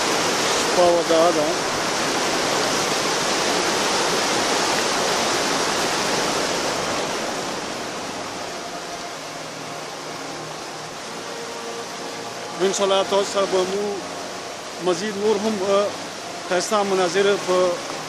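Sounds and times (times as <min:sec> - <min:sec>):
mountain river rushing: 0:00.0 - 0:18.0.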